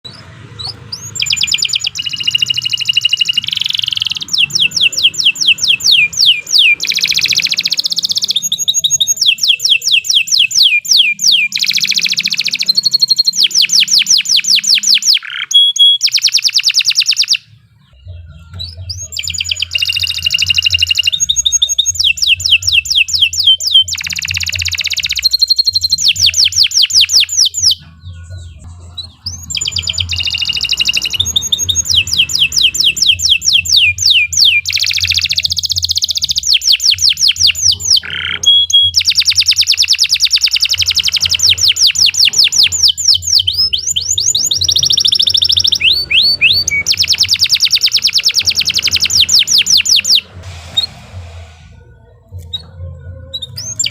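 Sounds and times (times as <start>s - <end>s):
canary singing fast trills: 0.0s - 51.0s, 51.7s - 53.9s.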